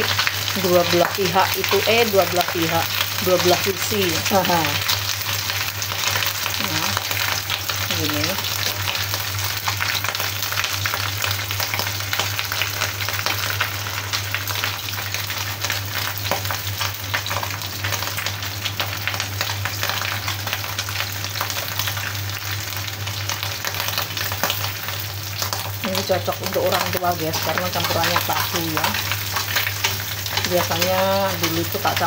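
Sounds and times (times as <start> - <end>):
fish sizzling in oil: 0.0 - 32.0
oil crackling and popping: 0.0 - 32.0.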